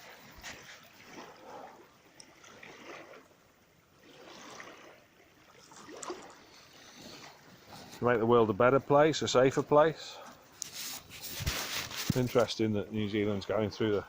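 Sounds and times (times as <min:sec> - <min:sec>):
sea water washing: 0:00.0 - 0:14.0.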